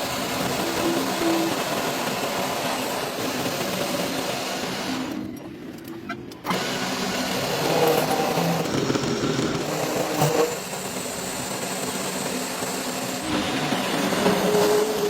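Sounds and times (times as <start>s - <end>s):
machine running: 0.0s - 15.0s.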